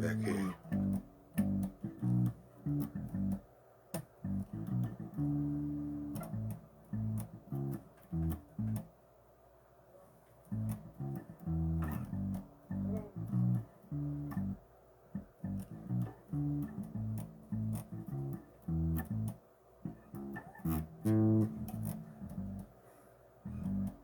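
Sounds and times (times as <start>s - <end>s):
bass guitar riff: 0.0s - 3.4s, 4.2s - 8.8s, 10.5s - 14.6s, 15.2s - 22.7s, 23.5s - 24.0s.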